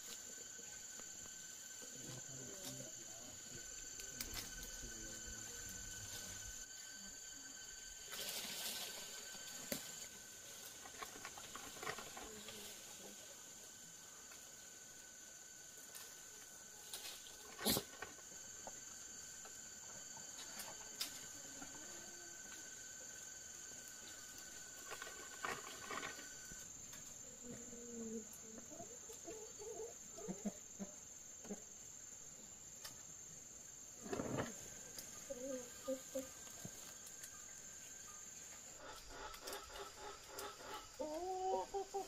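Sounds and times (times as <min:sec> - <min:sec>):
insects high drone: 0:00.0 - 0:42.0
lower insect tone: 0:00.0 - 0:42.0.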